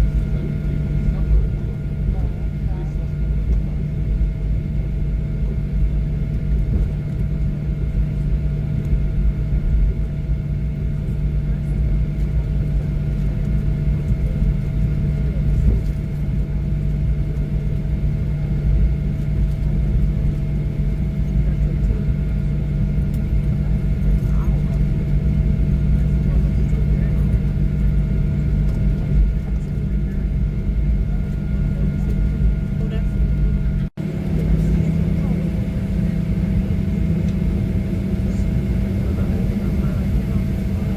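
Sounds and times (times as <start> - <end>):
aircraft cabin rumble: 0.0 - 40.9
jet engines idling hum: 0.0 - 40.9.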